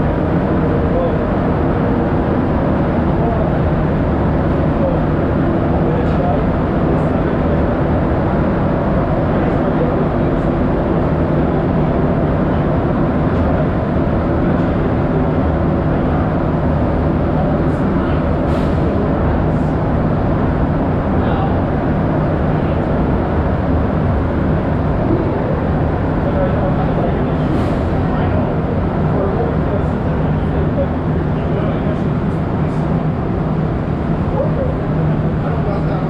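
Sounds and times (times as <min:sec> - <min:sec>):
metro train rumbling in tunnel: 0:00.0 - 0:36.0.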